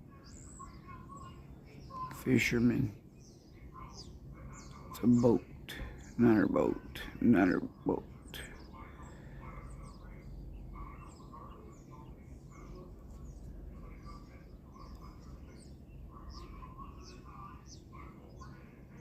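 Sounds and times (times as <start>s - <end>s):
birds chirping: 0.0s - 19.0s
distant boat engines rumbling: 0.0s - 19.0s.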